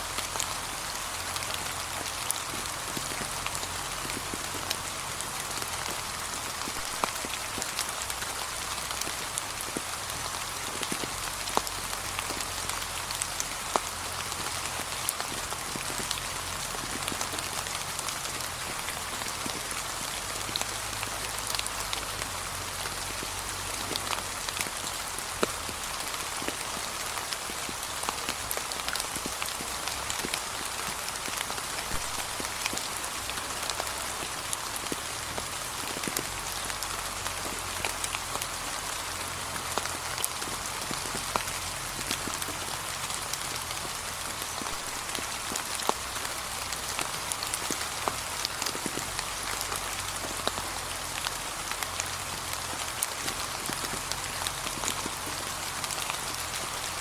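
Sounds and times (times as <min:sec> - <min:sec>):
light rain on leaves: 0:00.0 - 0:57.0.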